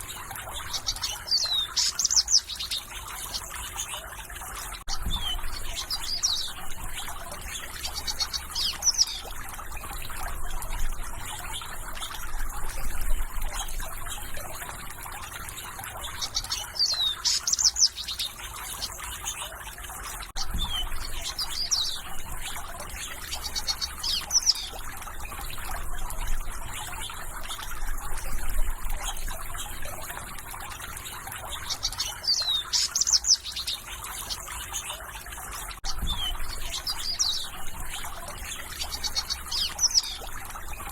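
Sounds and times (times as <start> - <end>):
songbirds singing: 0.0 - 40.9
water trickling: 0.0 - 40.9.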